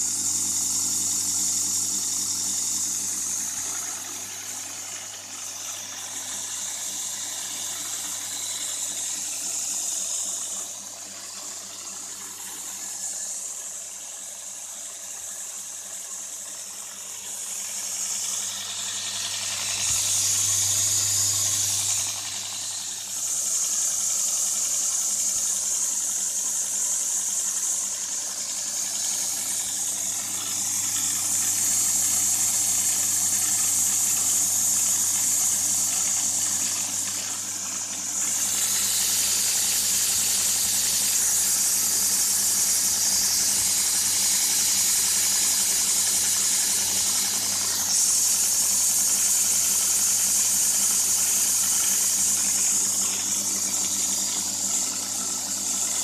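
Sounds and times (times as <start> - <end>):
abrasive belt hissing: 0.0 - 56.0
motor hum: 0.0 - 56.0.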